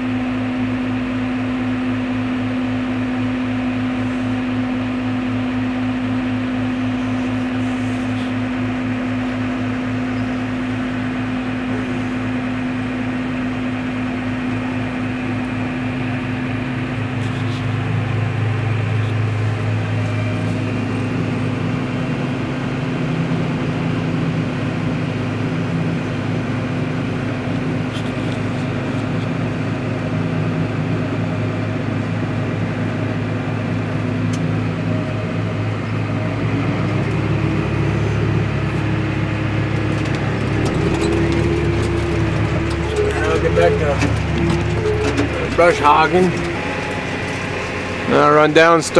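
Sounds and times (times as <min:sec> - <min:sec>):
combine harvester: 0:00.0 - 0:48.9
diesel tractor engine drone: 0:00.0 - 0:48.9.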